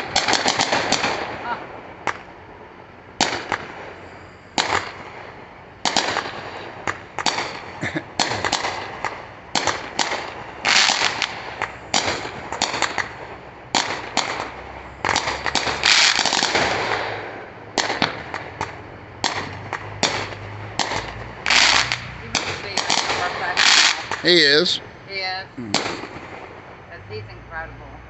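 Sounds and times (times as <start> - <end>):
fireworks crackling bursts: 0.0 - 27.9
fireworks bangs: 0.0 - 28.0.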